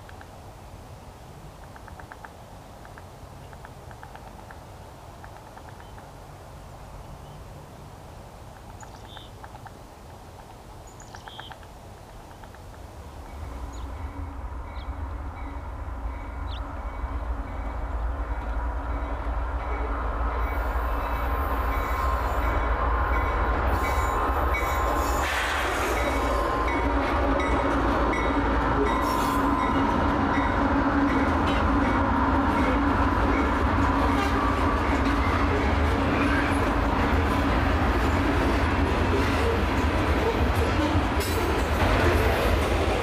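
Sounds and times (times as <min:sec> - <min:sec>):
train rumble and rail hum: 0:00.0 - 0:43.0.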